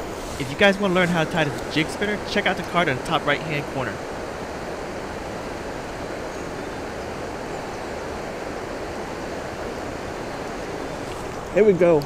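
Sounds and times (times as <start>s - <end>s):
creek water rushing over riffle: 0.0s - 12.0s.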